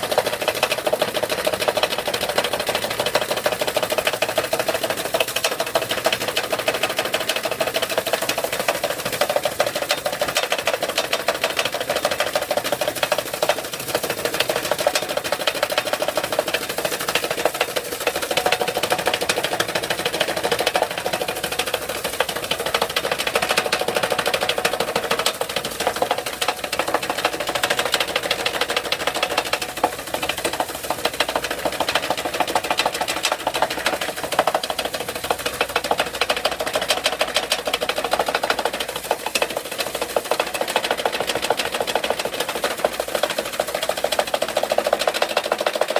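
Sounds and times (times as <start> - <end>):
fast rattle of spinning auger: 0.0 - 45.9.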